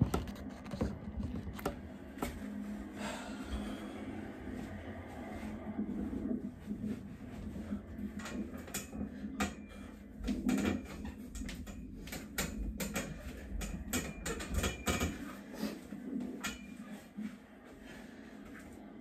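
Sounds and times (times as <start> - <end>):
low room rumble: 0.0 - 19.0.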